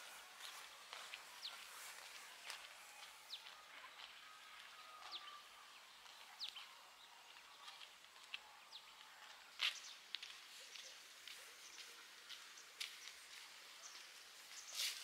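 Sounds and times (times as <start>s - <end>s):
soft outdoor hiss: 0.0s - 15.0s.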